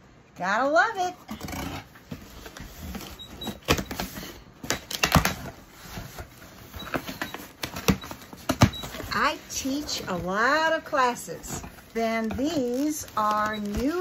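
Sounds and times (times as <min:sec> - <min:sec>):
cardboard scraping and rustling: 0:01.4 - 0:14.0
plastic wrapping rustling: 0:02.0 - 0:14.0.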